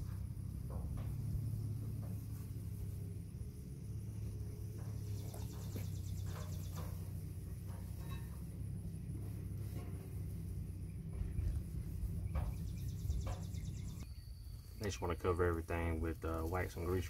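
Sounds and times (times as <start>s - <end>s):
insects trilling: 0.0s - 17.0s
steady low hum: 0.0s - 17.0s.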